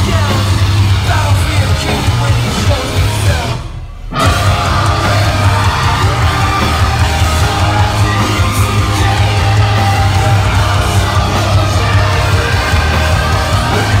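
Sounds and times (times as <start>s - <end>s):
live metal band playing: 0.0s - 14.0s.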